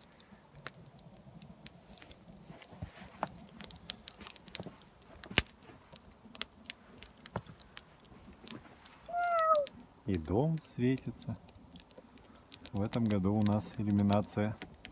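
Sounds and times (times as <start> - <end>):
firewood crackling and popping: 0.0 - 14.9.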